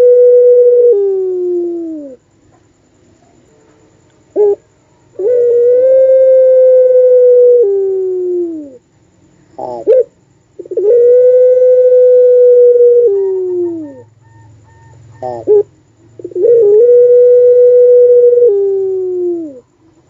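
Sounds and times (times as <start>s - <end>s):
dove cooing: 0.0s - 2.2s, 4.3s - 8.8s, 9.6s - 19.7s.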